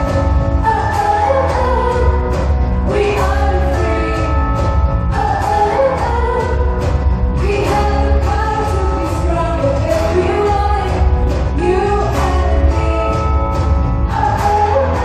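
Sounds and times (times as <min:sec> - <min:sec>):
amplified backing music with heavy bass: 0:00.0 - 0:15.0
woman singing into a microphone: 0:00.0 - 0:15.0.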